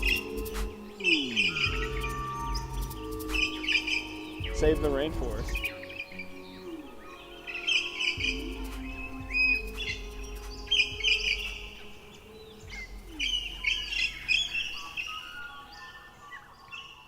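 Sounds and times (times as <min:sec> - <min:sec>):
birds chirping and calling: 0:00.0 - 0:17.0
low steady background tone: 0:00.0 - 0:17.0.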